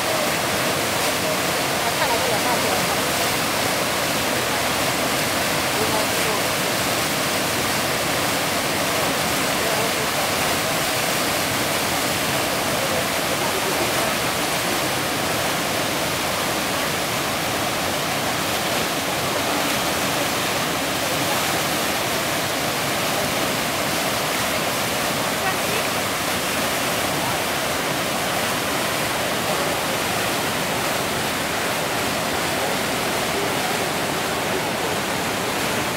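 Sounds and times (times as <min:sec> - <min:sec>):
whitewater rushing: 0:00.0 - 0:35.9.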